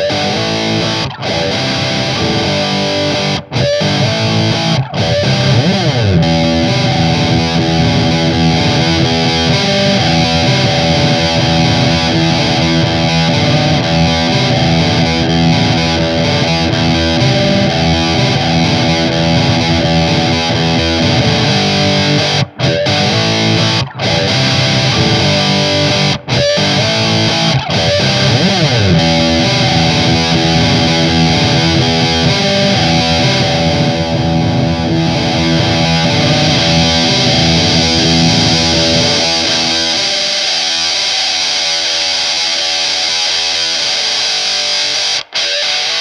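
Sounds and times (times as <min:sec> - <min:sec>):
distorted electric guitar riff: 0:00.0 - 0:46.0.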